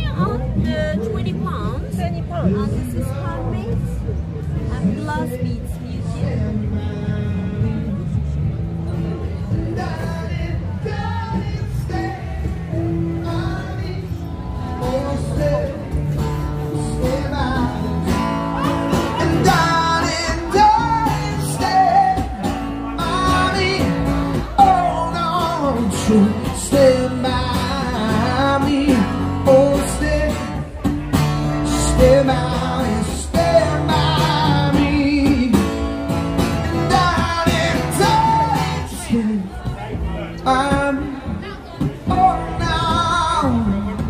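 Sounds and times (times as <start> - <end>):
acoustic guitar strumming: 4.6 - 44.0
man singing: 4.7 - 8.3, 9.4 - 44.0.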